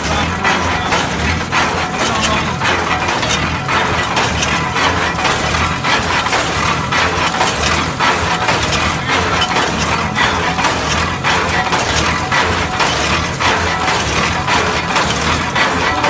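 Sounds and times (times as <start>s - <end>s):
engine hum: 0.0s - 16.0s
rhythmic clanking of gears and cable: 0.0s - 16.0s.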